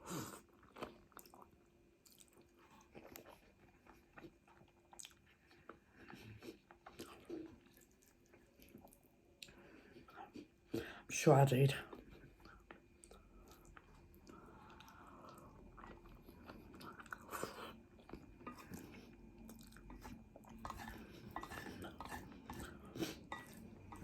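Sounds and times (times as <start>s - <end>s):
person chewing food: 0.0s - 11.0s, 11.9s - 24.0s.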